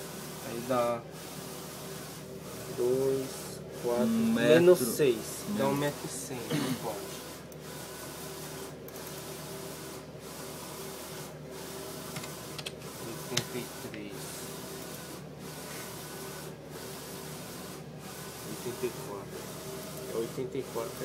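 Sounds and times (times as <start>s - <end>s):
printer carriage hissing: 0.0s - 21.0s.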